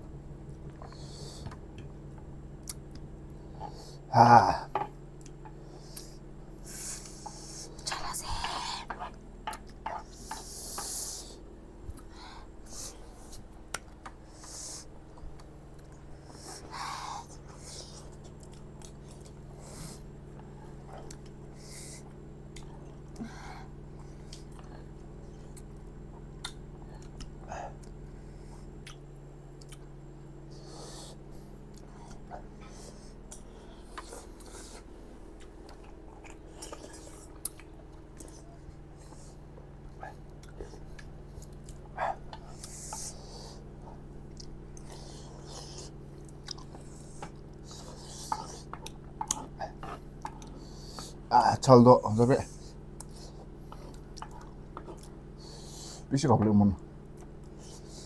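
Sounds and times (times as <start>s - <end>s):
steady low hum: 0.0s - 58.0s
people chewing: 0.4s - 56.2s, 56.9s - 58.0s.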